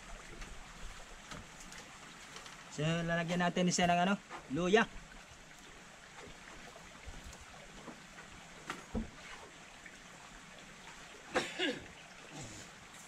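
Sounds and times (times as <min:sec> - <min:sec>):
water boiling and bubbling: 0:00.0 - 0:13.0.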